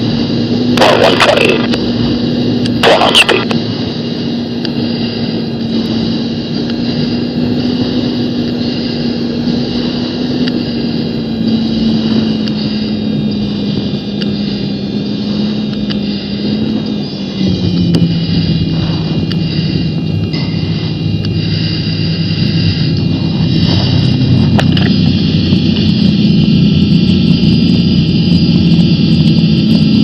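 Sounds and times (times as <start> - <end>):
jet engine whine and rumble: 0.0 - 30.0
loud rushes of noise: 0.0 - 30.0
steady hum: 0.0 - 30.0.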